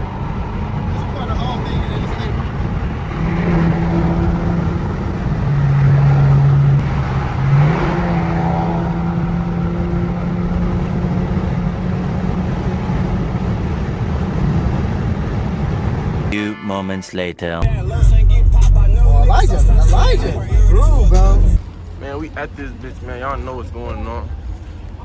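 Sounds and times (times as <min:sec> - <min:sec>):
car engine droning: 0:00.0 - 0:16.4, 0:17.6 - 0:25.0.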